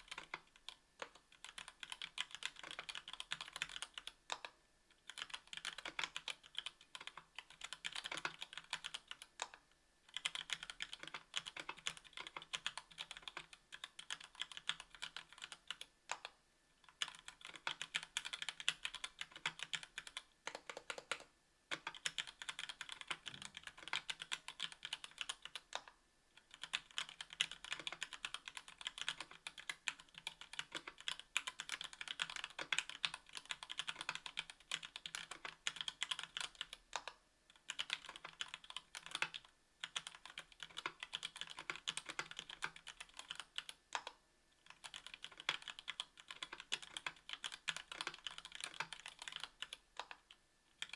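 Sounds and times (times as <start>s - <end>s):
typing on a mechanical keyboard: 0.0s - 50.9s.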